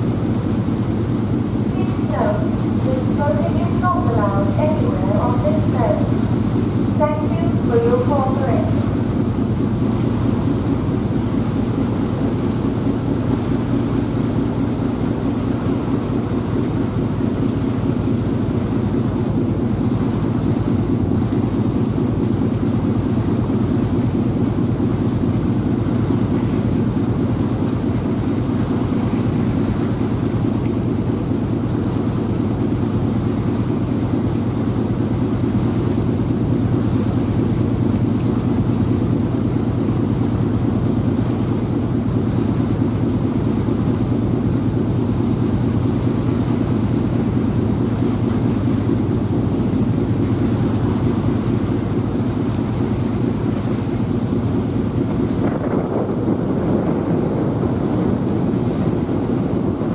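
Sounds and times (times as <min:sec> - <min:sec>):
ferry engine drone: 0:00.0 - 0:59.9.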